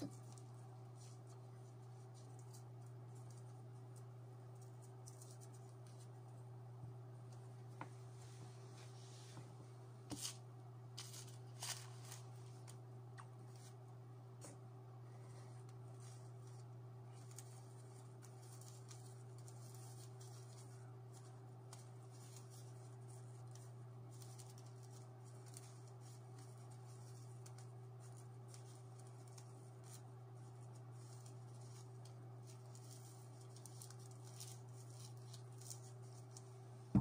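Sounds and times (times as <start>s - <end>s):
ticks and rustles of handling: 0.0s - 37.0s.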